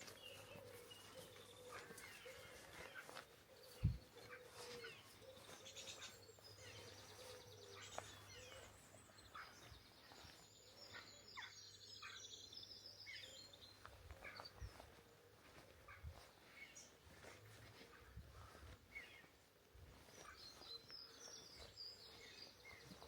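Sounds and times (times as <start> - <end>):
songbirds trilling and chirping: 0.0 - 23.0.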